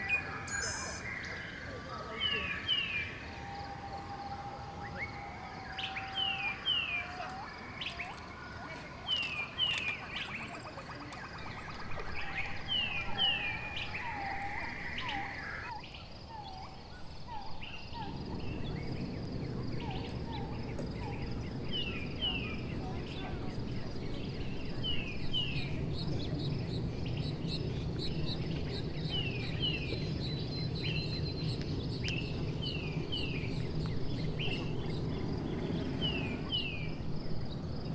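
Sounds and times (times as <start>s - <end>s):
birds chirping: 0.0s - 37.9s
steady background hum: 0.0s - 37.9s.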